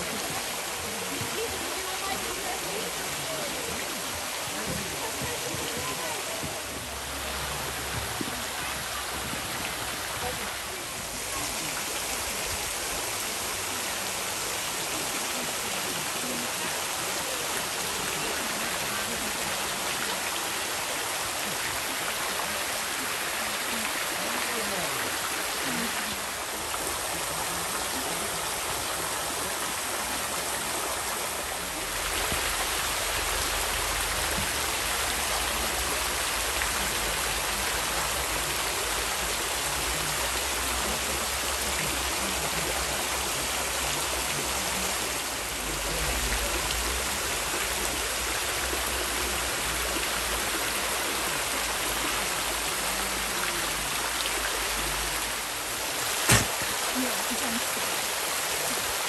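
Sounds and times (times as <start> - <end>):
small waterfall splashing into pool: 0.0 - 59.0.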